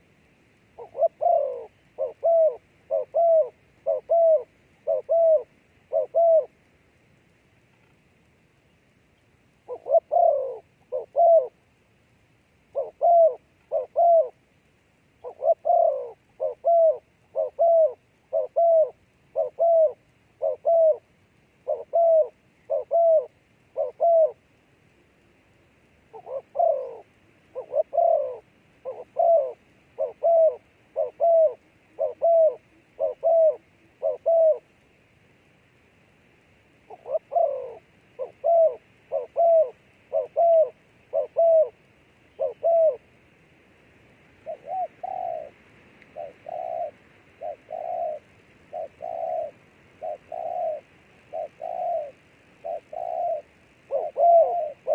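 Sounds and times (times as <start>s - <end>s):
dove cooing: 0.8s - 6.6s, 9.6s - 11.6s, 12.7s - 14.4s, 15.2s - 24.5s, 26.1s - 34.7s, 36.8s - 43.2s, 44.4s - 54.9s.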